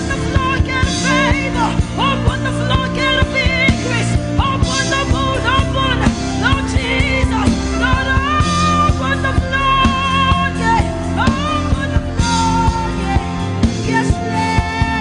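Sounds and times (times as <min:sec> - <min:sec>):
band with drums keyboard guitar: 0:00.0 - 0:15.0
person singing with vibrato: 0:00.0 - 0:15.0.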